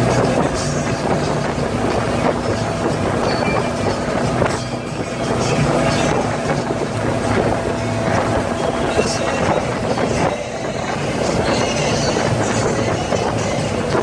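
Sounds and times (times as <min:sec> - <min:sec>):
churning wake water: 0:00.0 - 0:14.0
motorboat engine drone: 0:00.0 - 0:14.0
wind: 0:00.0 - 0:14.0.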